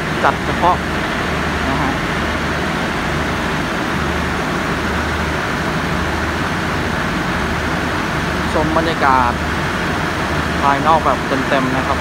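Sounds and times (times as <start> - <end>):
air-conditioning and generator rushing: 0.0 - 12.0
train low hum: 0.0 - 12.0.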